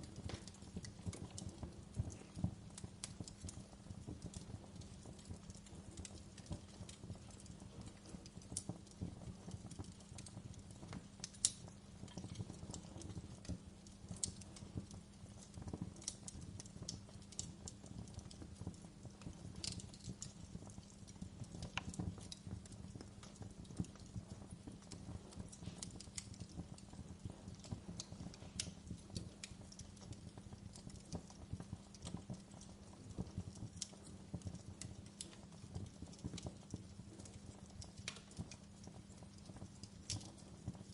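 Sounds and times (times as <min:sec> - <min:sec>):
fire crackling and popping: 0:00.0 - 0:40.9
low rumble of fire: 0:00.0 - 0:40.9.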